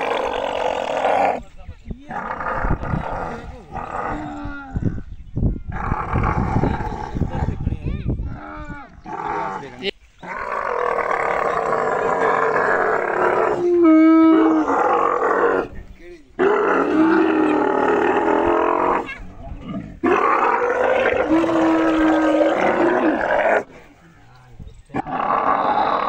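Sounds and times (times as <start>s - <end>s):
camels bellowing and gurgling: 0.0s - 15.8s, 16.4s - 23.9s.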